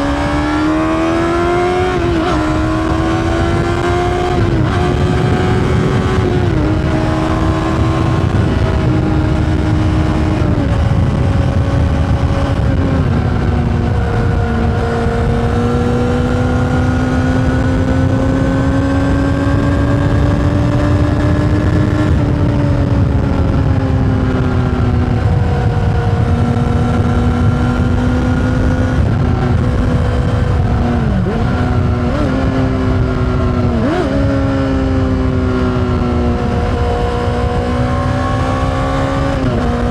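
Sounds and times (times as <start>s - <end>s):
low wind rush: 0.0s - 39.9s
motorcycle engine: 0.0s - 39.9s.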